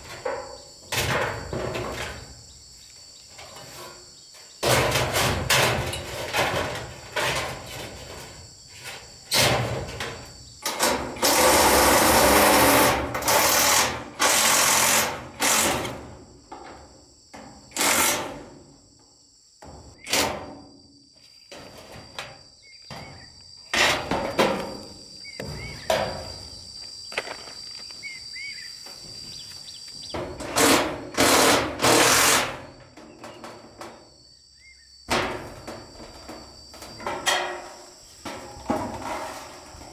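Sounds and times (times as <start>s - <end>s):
knocks and scraping: 0.0s - 2.6s, 3.2s - 18.7s, 21.4s - 28.1s, 28.8s - 34.1s, 35.1s - 39.9s
high insect drone: 0.0s - 39.9s.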